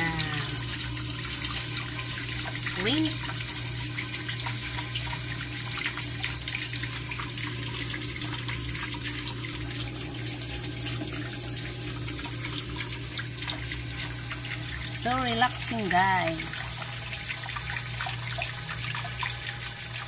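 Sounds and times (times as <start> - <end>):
low steady hum: 0.0 - 19.9
running water rushing: 0.0 - 20.0.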